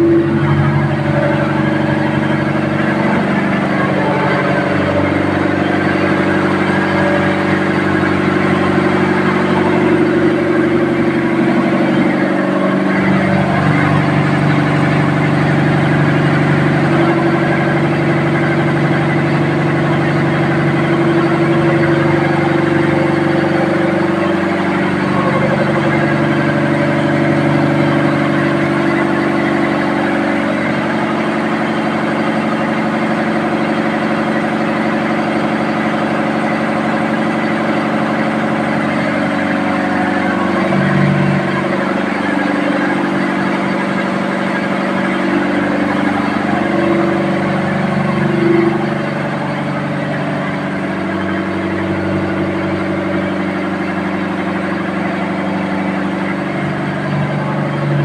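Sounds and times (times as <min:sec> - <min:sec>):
ship engine running: 0:00.0 - 0:58.0.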